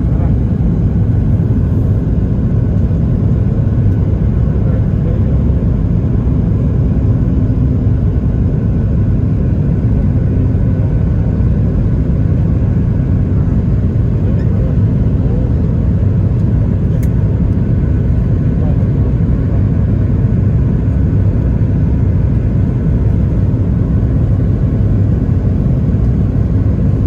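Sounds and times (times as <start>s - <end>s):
jet airliner rumble: 0.0s - 27.0s.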